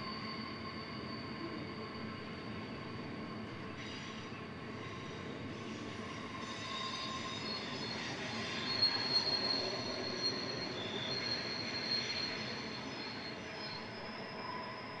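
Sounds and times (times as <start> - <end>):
train rolling noise: 0.0 - 15.0
train wheels squealing: 0.0 - 15.0.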